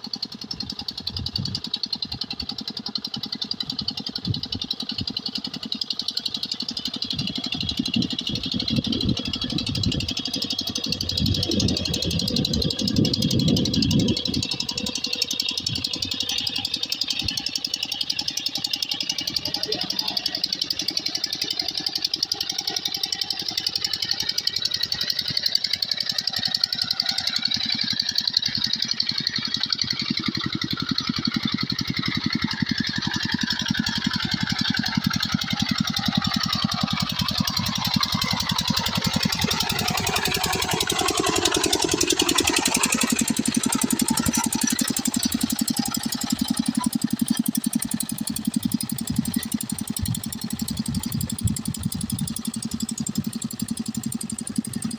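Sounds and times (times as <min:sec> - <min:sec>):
diesel tractor engine running: 0:00.0 - 0:54.9.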